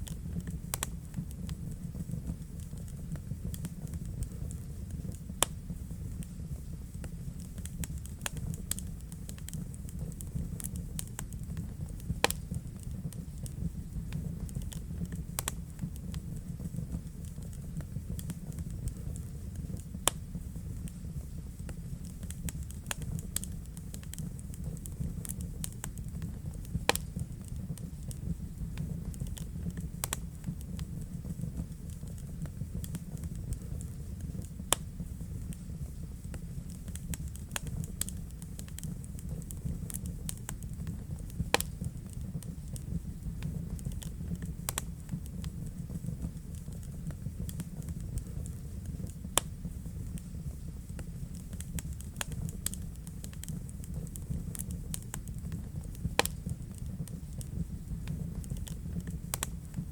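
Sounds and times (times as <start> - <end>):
loud fire pops: 0.0 - 59.9
wood fire crackling: 0.0 - 59.9.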